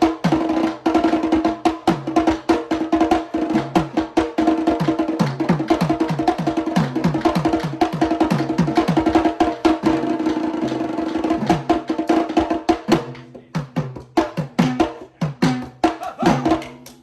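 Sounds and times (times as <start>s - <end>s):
drum ensemble playing: 0.0s - 17.0s.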